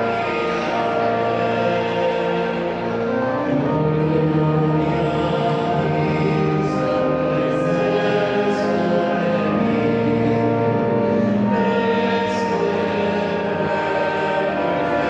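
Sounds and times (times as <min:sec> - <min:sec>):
church music held chords: 0:00.0 - 0:15.0.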